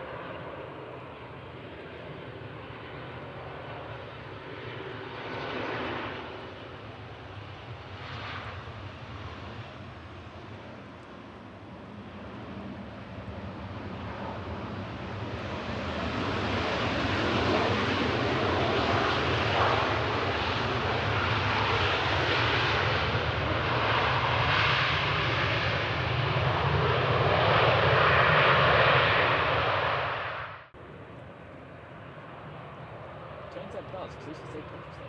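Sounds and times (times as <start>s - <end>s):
jet airliner engine noise: 0.0s - 35.0s.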